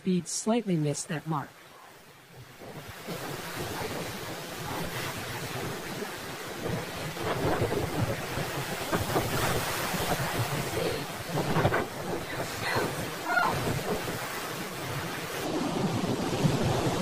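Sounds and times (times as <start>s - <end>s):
surf washing up the beach: 1.4s - 17.0s
wind buffeting the microphone: 2.0s - 17.0s.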